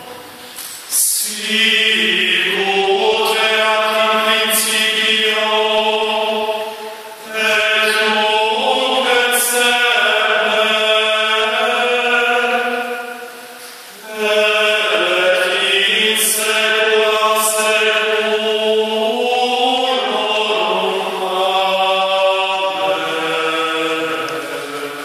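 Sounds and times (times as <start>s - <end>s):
male choir singing a cappella: 0.9s - 25.0s.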